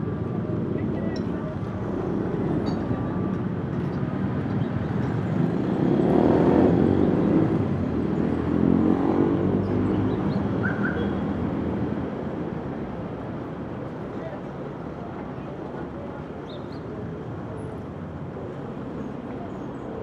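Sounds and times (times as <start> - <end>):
city street noise: 0.0 - 20.0.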